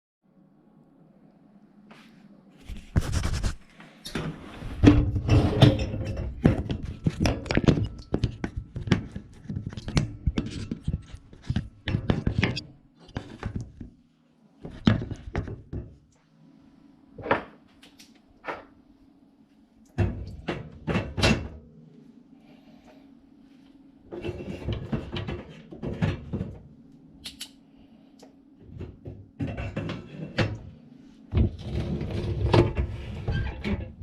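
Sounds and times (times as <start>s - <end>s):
faint low hum: 0.2s - 34.0s.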